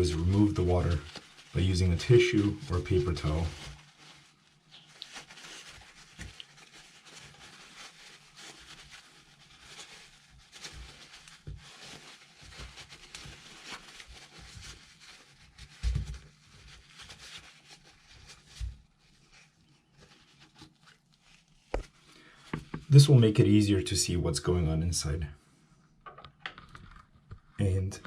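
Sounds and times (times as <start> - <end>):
paper towel rustling and scratching: 0.0 - 23.6.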